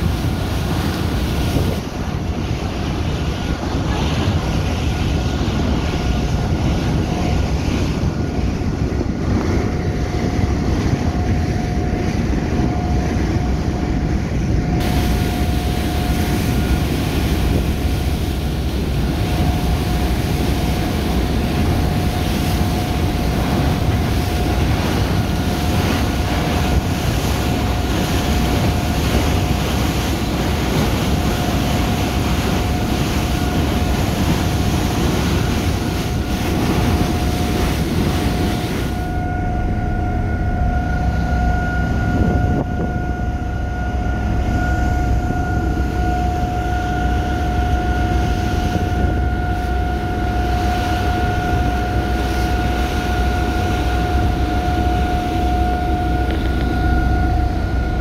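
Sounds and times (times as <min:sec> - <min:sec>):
constant hum: 0:00.0 - 0:58.0
ship engines and water rushing: 0:00.0 - 0:58.0
wind buffeting microphone: 0:00.0 - 0:58.0.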